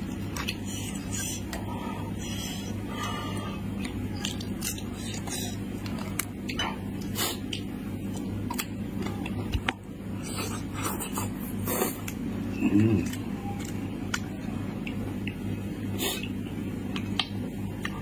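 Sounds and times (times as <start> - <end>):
wet chewing: 0.0 - 15.4
steady low hum: 0.0 - 18.0.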